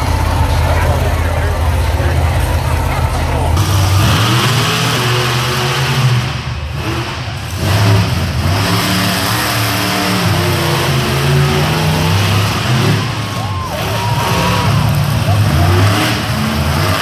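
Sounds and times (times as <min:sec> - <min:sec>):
monster truck engines revving: 0:00.0 - 0:17.0.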